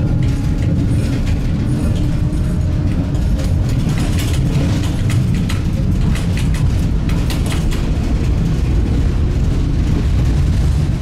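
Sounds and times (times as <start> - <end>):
tram rumbling on rails: 0.0 - 11.0
wheels clicking on track: 0.0 - 11.0.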